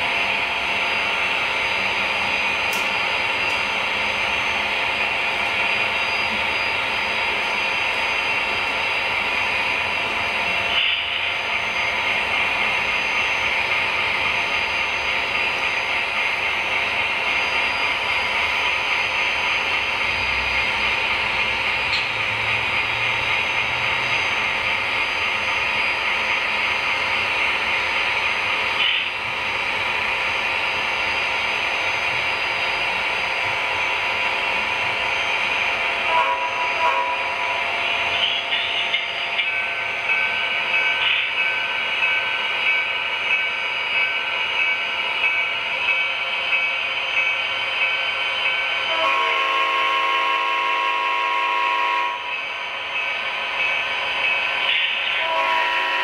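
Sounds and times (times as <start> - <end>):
high whir of wheels on rail: 0.0 - 56.0
model train rolling on track: 0.0 - 56.0.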